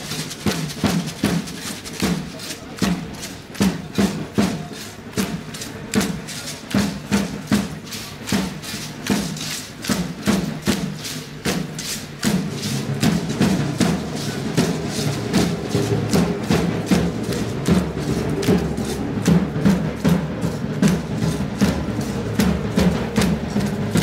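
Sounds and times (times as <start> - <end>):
music with percussion beat: 0.0 - 24.0.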